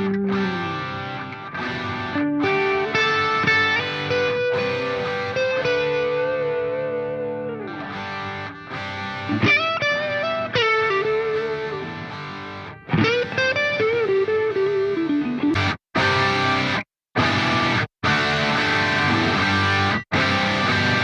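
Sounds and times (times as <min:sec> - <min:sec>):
distorted electric guitar lead: 0:00.0 - 0:21.0.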